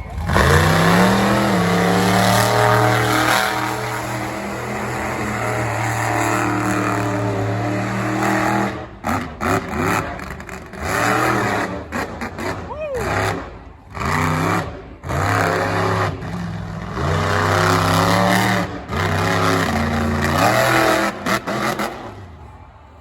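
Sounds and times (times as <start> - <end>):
truck engine revving: 0.0 - 22.5.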